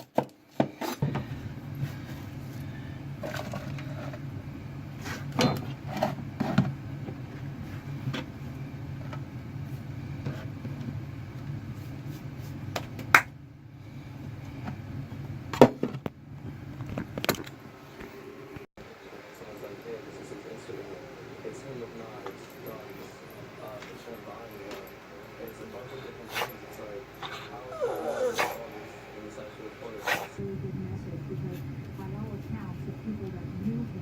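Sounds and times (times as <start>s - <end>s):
steady low hum: 1.0s - 34.0s.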